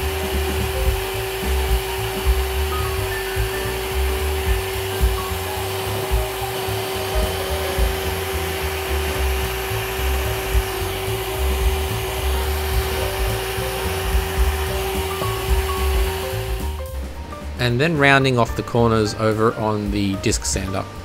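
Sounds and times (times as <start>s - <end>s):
drill press motor whine: 0.0s - 16.8s
faint background music: 0.0s - 21.0s.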